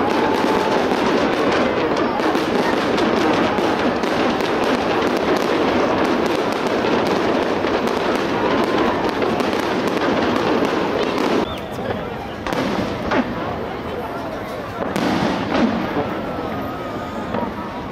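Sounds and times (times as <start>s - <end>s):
crowd voices: 0.0s - 17.9s
fireworks crackling and popping: 0.0s - 17.9s.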